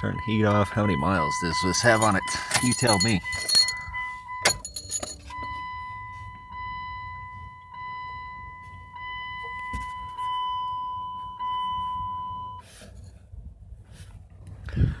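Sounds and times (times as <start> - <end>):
dashboard warning chime: 0.0 - 12.6.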